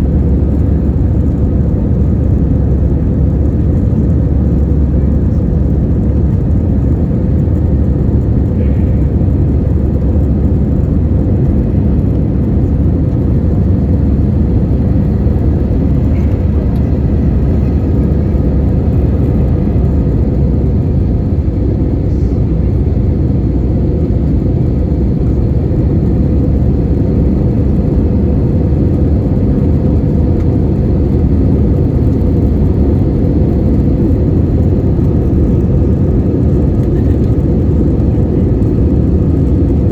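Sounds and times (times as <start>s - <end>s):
airplane engines rumbling in cabin: 0.0s - 39.9s.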